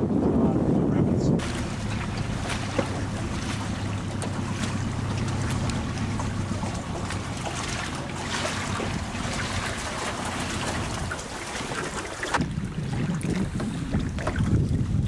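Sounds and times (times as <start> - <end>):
wind noise on microphone: 0.0 - 15.0
outboard motor humming: 1.3 - 15.0.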